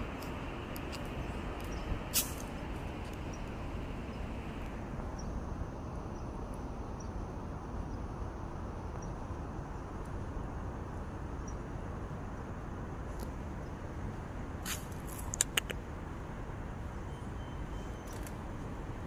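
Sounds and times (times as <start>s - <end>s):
low rumble of distant traffic: 0.0s - 19.0s.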